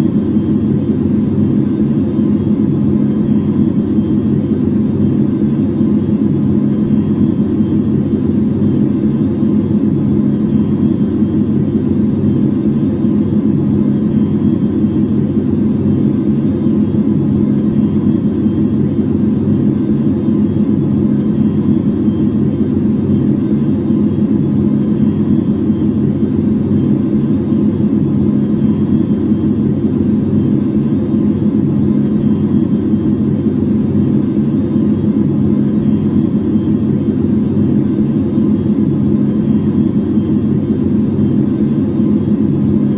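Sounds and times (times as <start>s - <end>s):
loud low rumble with hum: 0.0s - 42.9s.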